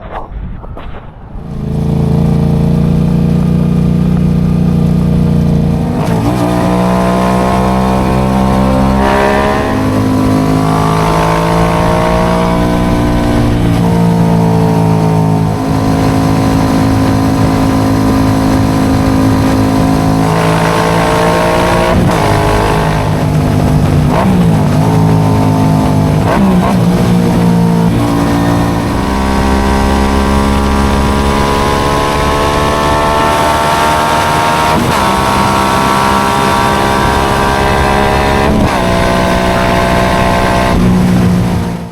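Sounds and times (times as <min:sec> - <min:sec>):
motorcycle engine revving: 0:01.4 - 0:41.9.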